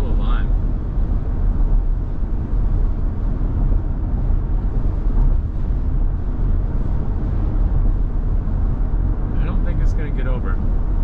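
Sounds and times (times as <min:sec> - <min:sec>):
tyre and wind noise: 0:00.0 - 0:09.6.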